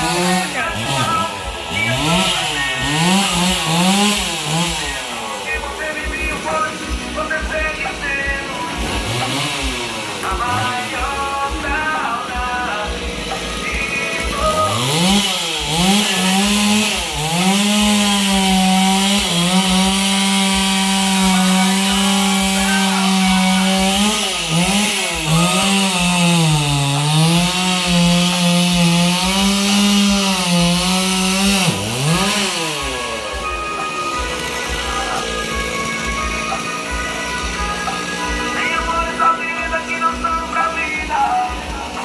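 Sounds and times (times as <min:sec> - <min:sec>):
chainsaw engine revving: 0:00.0 - 0:42.0.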